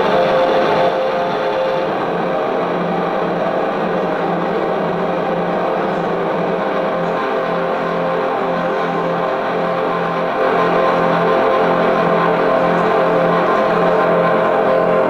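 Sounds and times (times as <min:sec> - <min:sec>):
synthesizer drone: 0:00.0 - 0:15.0.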